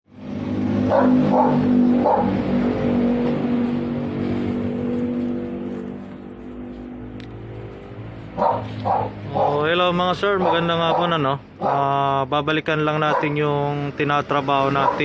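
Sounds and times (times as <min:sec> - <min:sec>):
van engine running: 0:00.1 - 0:15.0.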